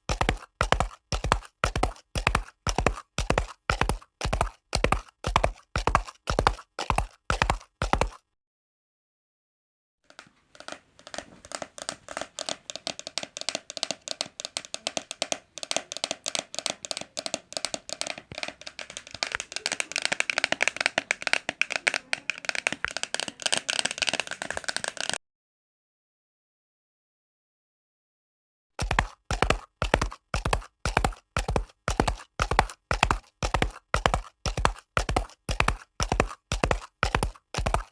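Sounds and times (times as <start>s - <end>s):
horse hoofbeats galloping: 0.0s - 8.2s, 10.5s - 25.2s, 28.8s - 37.9s.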